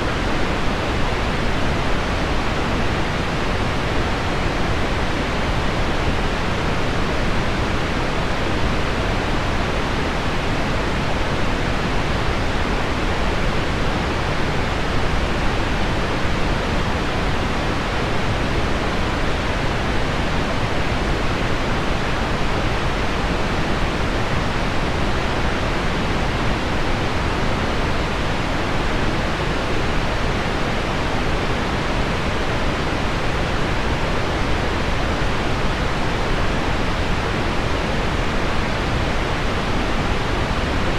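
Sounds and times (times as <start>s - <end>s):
pink noise: 0.0s - 40.9s.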